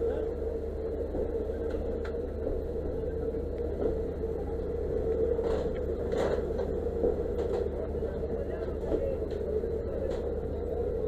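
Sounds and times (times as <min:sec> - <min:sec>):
fire engine pump rumbling: 0:00.0 - 0:11.0.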